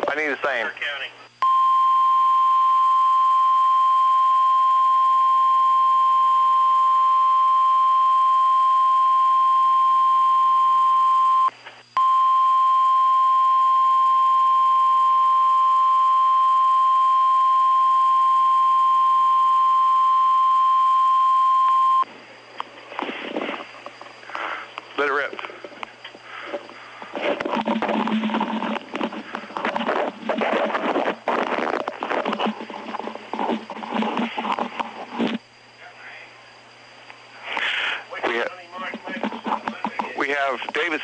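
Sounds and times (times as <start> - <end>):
steady alarm tone: 1.4 - 22.1, 22.9 - 41.0.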